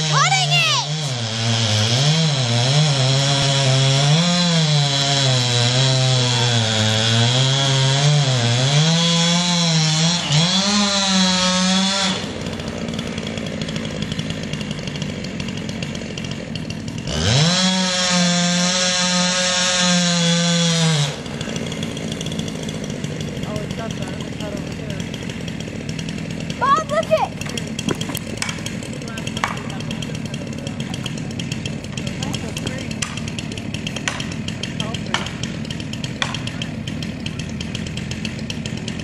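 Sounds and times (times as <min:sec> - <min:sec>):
chainsaw cutting at high revs: 0:00.0 - 0:39.0.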